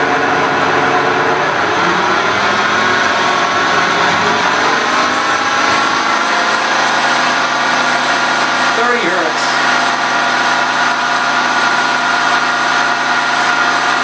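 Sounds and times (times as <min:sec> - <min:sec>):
milling machine running: 0:00.0 - 0:14.0.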